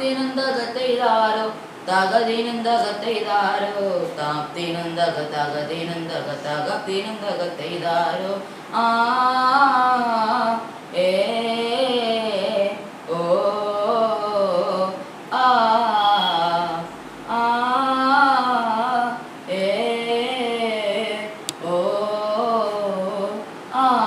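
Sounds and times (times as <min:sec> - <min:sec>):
boy singing unaccompanied: 0:00.0 - 0:24.0.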